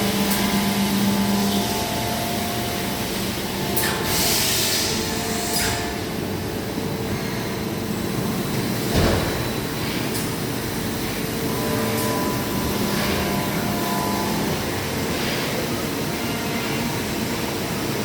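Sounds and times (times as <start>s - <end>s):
machining center humming: 0.0s - 18.0s.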